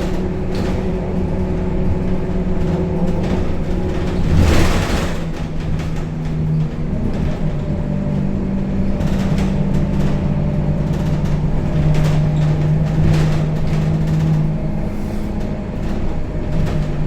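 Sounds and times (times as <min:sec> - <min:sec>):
bus diesel engine humming: 0:00.0 - 0:17.0.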